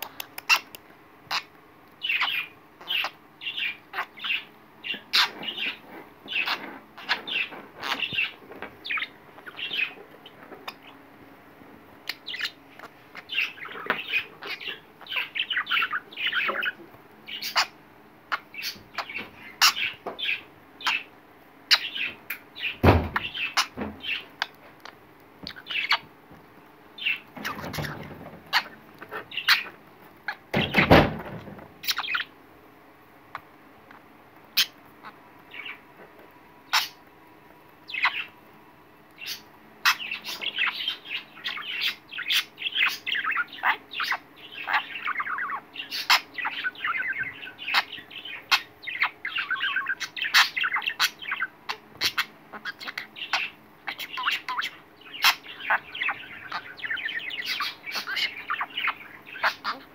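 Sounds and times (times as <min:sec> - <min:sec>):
budgerigar chirping and warbling: 0:00.0 - 0:10.0, 0:12.1 - 0:21.1, 0:21.7 - 0:26.1, 0:27.0 - 0:31.0, 0:31.8 - 0:32.3, 0:34.6 - 0:35.8, 0:36.7 - 0:37.0, 0:37.9 - 0:38.4, 0:39.2 - 0:59.9.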